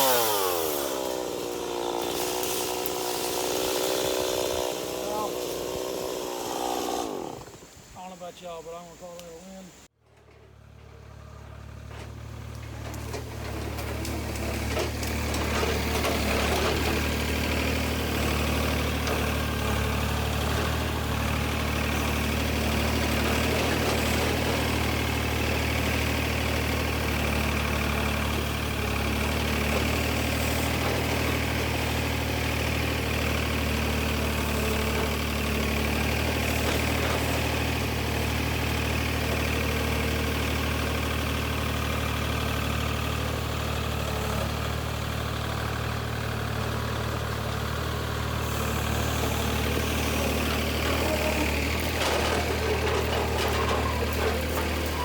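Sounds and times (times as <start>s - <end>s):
engine idling: 9.9s - 55.0s.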